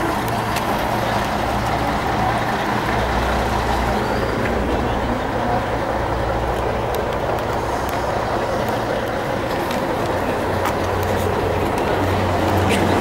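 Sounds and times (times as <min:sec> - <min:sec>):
coach engine idling: 0:00.0 - 0:13.0.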